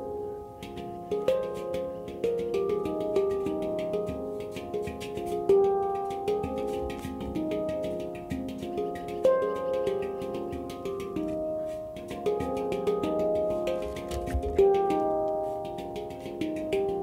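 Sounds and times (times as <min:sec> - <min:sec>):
handpan notes ringing: 0:00.0 - 0:17.0.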